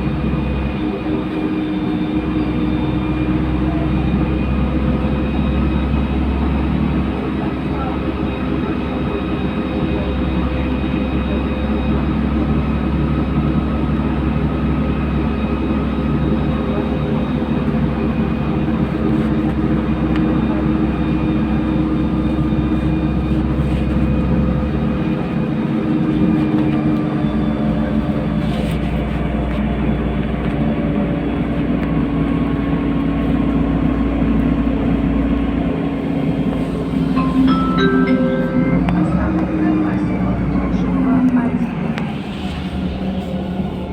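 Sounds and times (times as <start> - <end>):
road and drivetrain noise: 0.0 - 38.0, 38.9 - 43.9
bus engine running: 0.0 - 43.9.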